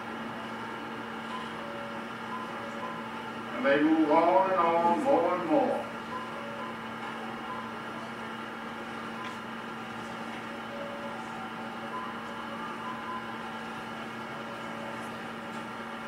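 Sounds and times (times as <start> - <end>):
electrical hum and hiss: 0.0 - 16.0.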